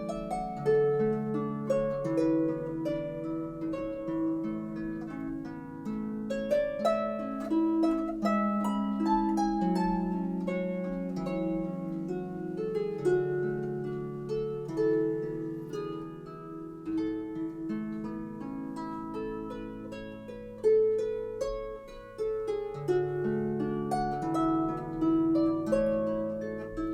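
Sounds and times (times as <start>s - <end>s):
solo harp music: 0.0s - 26.9s.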